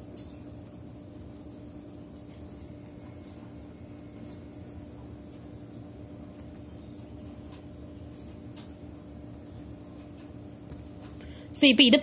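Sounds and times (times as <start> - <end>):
pen scratching on paper: 0.0 - 11.0
steady low hum: 0.0 - 12.0.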